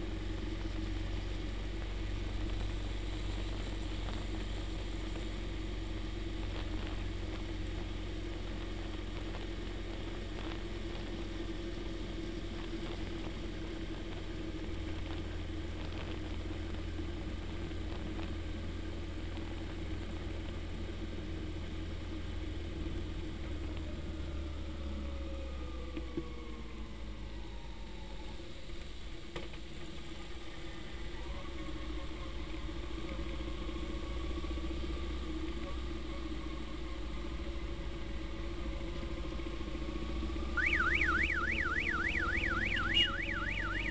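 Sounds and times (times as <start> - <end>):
motorcycle engines droning: 0.0 - 43.9
road and wind noise: 0.0 - 43.9.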